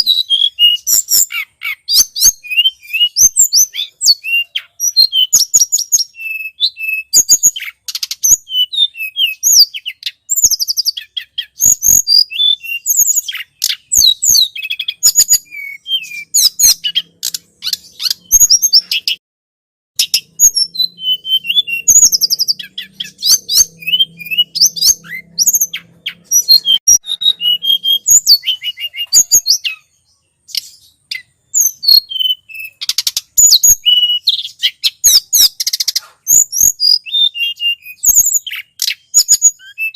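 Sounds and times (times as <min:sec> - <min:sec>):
high-pitched bird chirps and trills: 0:00.0 - 0:19.2, 0:20.0 - 0:39.9.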